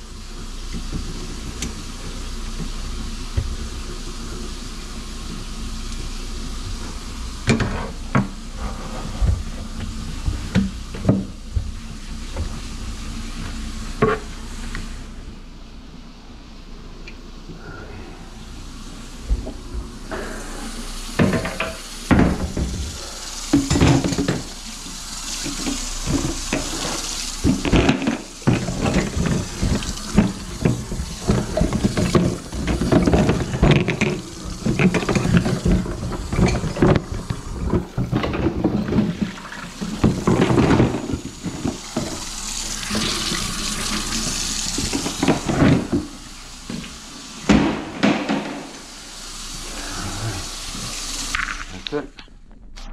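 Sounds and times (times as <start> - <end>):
tap water running into sink: 5.2 - 14.9, 19.2 - 52.0.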